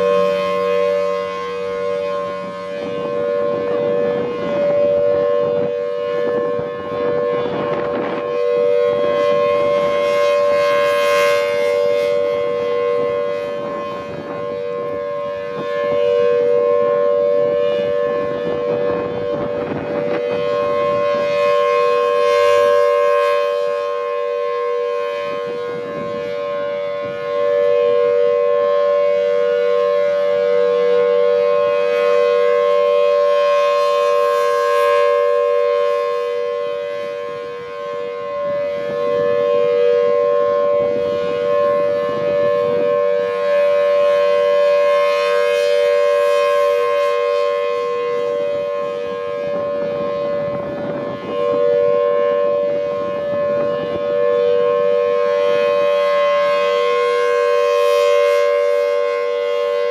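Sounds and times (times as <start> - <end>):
warning siren steady chord: 0.0 - 59.9.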